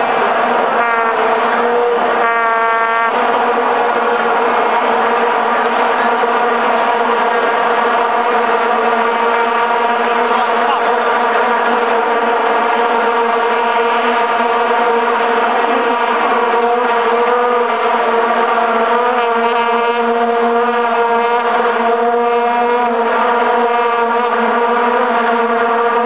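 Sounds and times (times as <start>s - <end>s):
nearby horn blast: 0.0s - 26.0s
vuvuzelas droning: 0.0s - 26.0s.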